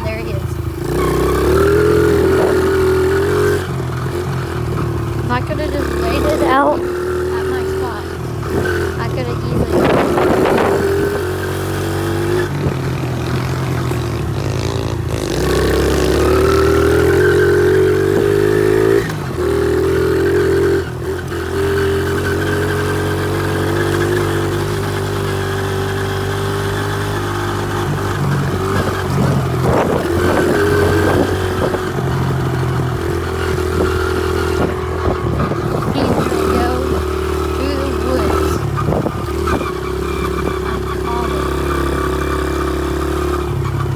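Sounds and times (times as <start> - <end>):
small motorcycle engine revving: 0.0 - 43.9.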